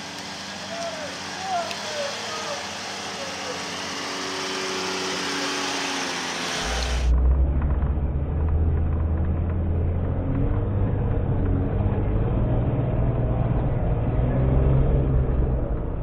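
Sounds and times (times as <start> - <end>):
vehicle engine at low revs: 0.0 - 16.0.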